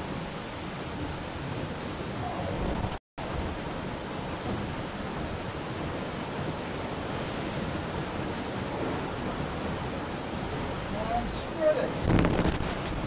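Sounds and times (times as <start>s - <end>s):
sea rushing: 0.0s - 13.0s
wind: 0.0s - 13.0s.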